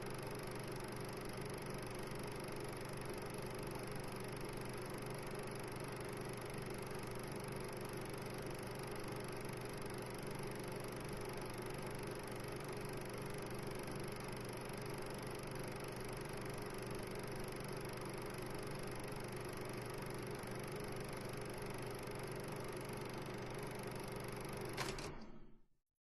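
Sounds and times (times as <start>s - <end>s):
steady mechanical hum: 0.0s - 25.6s.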